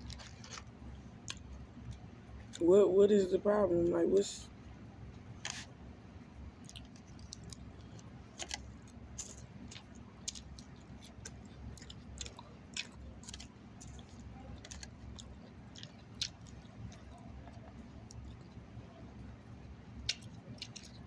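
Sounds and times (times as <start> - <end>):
person chewing food: 0.0 - 2.6, 5.3 - 21.0
low steady hum: 0.0 - 21.0.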